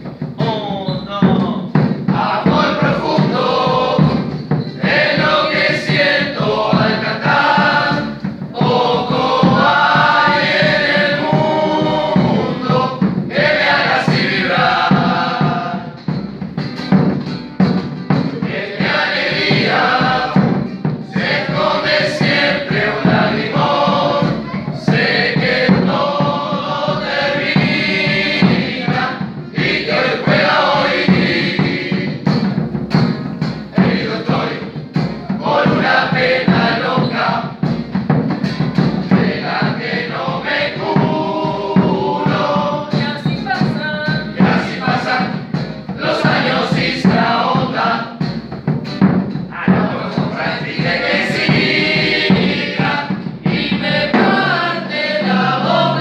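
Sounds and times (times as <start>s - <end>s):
group singing together: 0.0s - 17.2s, 17.8s - 56.0s
acoustic guitar: 0.0s - 56.0s.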